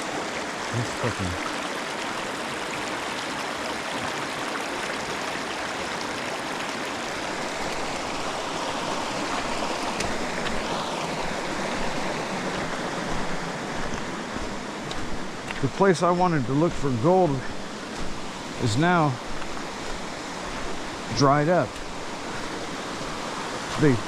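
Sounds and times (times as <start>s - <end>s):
water rushing over rocks: 0.0s - 24.0s.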